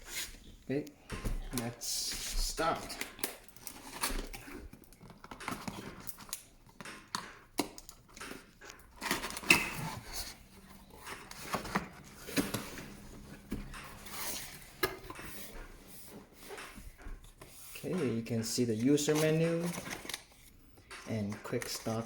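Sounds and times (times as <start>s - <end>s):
packaging rustling and scraping: 1.5s - 22.0s.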